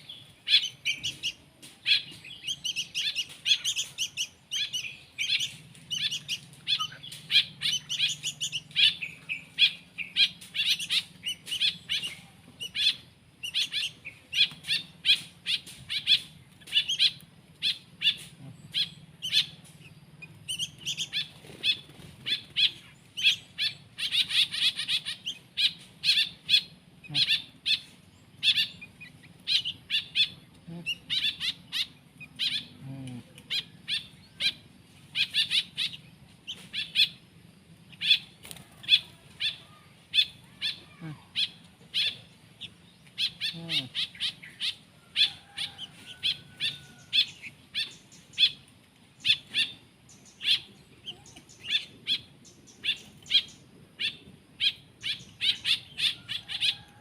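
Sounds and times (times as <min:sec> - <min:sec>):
baby birds chirping: 0:00.0 - 0:57.0.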